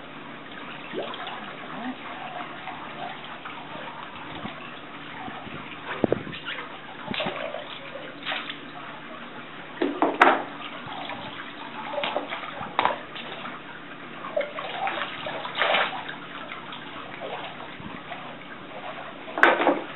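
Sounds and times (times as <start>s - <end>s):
swim fins splashing in pool: 0.0s - 19.9s
water running off a fin: 0.0s - 19.9s.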